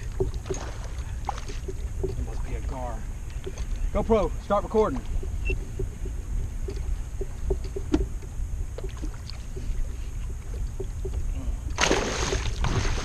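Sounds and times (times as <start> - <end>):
small clicks and knocks from boat: 0.0 - 12.8
steady low rumble: 0.0 - 13.0
water along a hull: 0.0 - 13.0.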